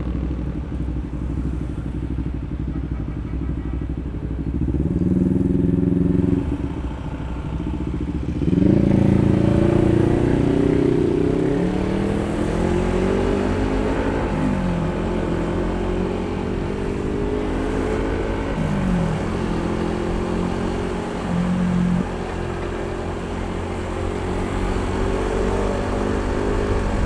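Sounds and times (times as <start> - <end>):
scooter engine running under throttle: 0.0 - 27.0.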